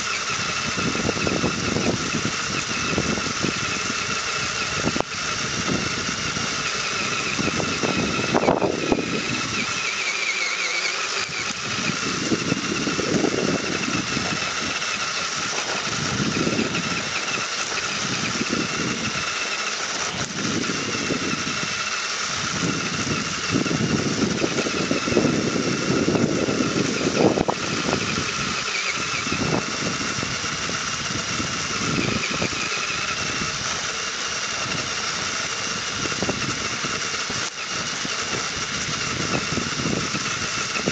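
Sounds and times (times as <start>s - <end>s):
electric motor whine: 0.0s - 40.9s.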